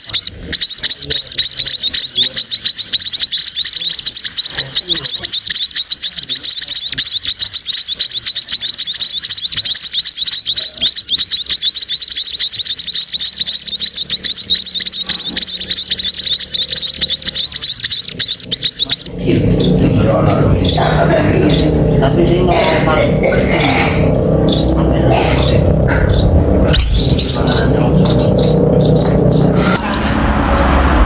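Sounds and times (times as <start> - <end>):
nestlings chirping: 0.0 - 30.1.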